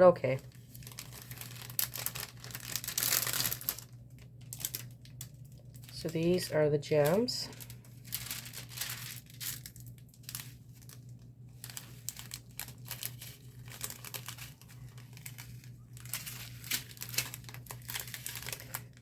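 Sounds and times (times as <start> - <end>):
faint low hum: 0.0 - 19.0
plastic bags crinkling: 0.1 - 19.0.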